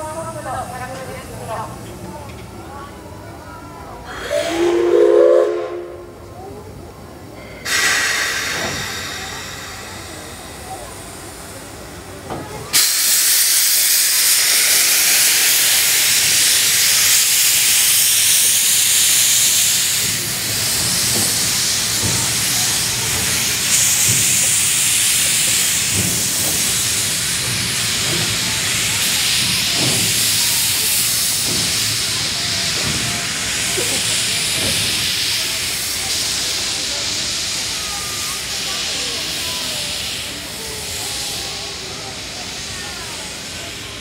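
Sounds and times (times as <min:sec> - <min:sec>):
steam locomotive venting steam: 0:03.2 - 0:44.0.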